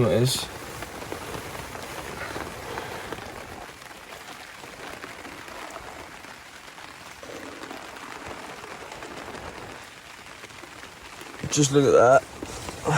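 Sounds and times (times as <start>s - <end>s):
steady outdoor hiss: 0.0s - 12.9s.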